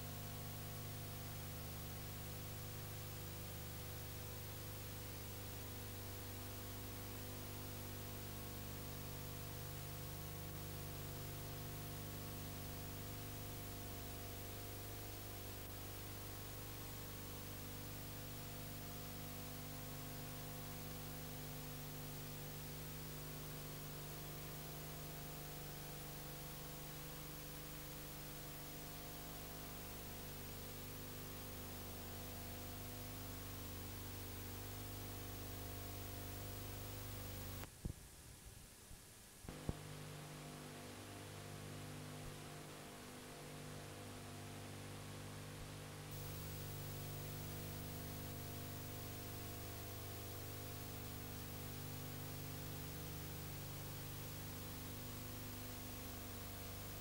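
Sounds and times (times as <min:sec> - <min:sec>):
electrical mains hum: 0:00.0 - 0:57.0
tape hiss: 0:00.0 - 0:57.0.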